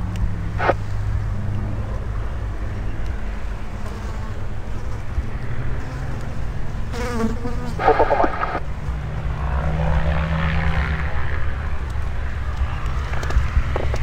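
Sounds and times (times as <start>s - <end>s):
light aircraft engine and propeller: 0.0s - 14.0s.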